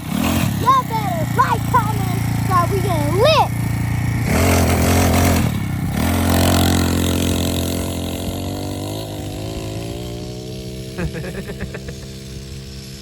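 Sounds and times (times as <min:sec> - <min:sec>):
vehicle engine speeding up: 0:00.0 - 0:13.0.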